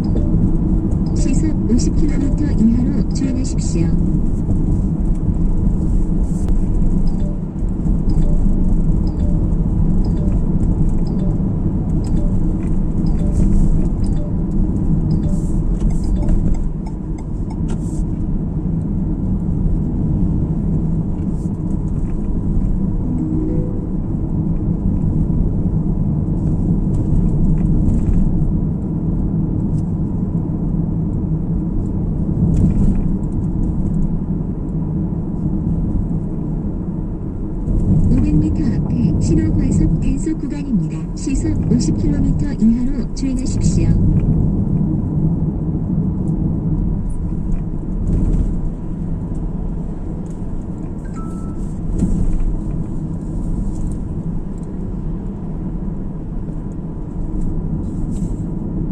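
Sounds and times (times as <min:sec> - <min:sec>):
car road noise: 0:00.0 - 0:58.9.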